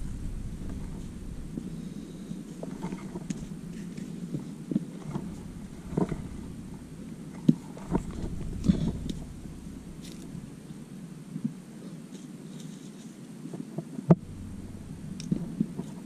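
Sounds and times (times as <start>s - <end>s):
wind rumble on microphone: 0.0s - 11.7s, 13.5s - 16.0s.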